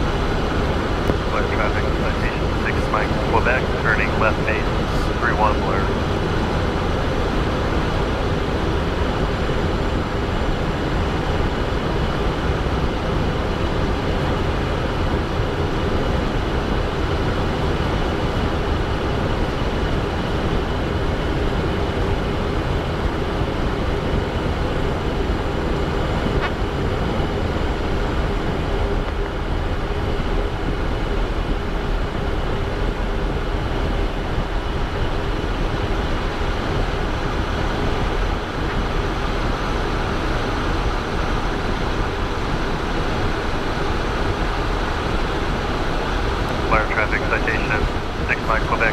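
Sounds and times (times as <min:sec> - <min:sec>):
faint steady whine: 0:00.0 - 0:48.9
jet engines humming: 0:00.0 - 0:48.9.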